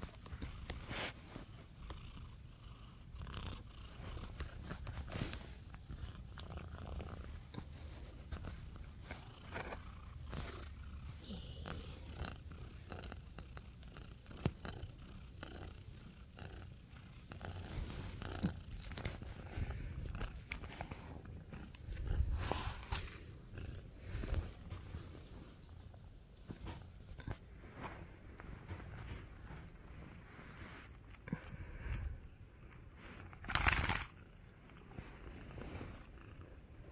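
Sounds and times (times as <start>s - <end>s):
cat purring: 0.0s - 33.4s, 34.4s - 36.9s.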